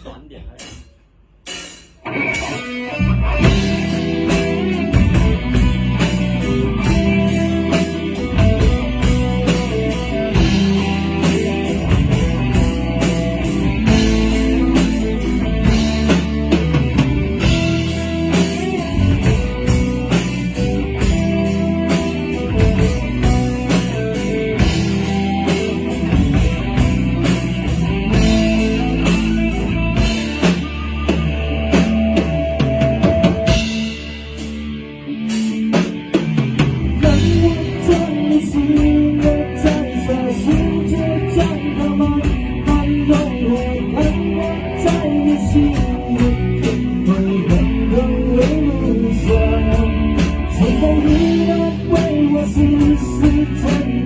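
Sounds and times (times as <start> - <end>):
bass guitar: 0.0 - 54.0
drum kit: 0.0 - 54.0
electric guitars: 1.5 - 54.0.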